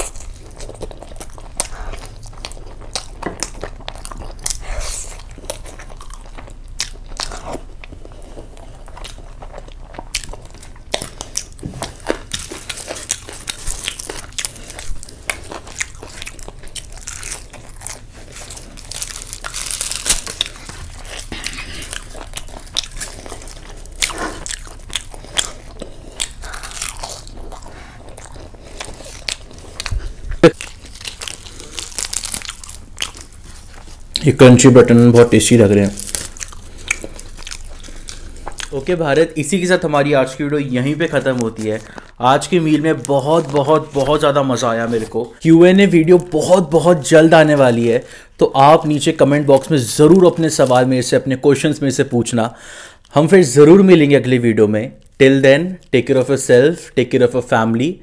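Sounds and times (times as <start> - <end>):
biting and chewing food: 0.0 - 50.9.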